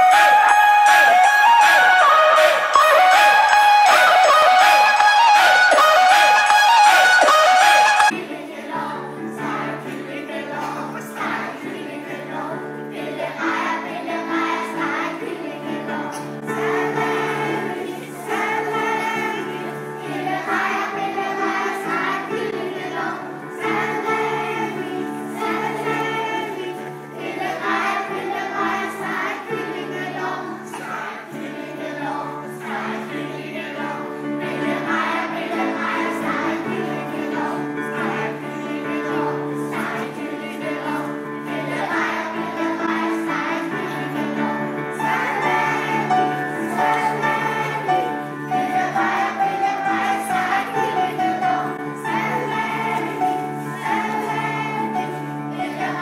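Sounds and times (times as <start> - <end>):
children and women singing: 0.0 - 56.0
musical accompaniment: 0.0 - 56.0.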